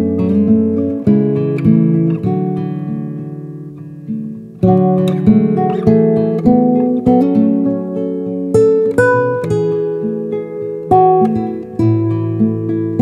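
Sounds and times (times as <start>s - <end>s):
acoustic guitar picking chords: 0.0s - 13.0s.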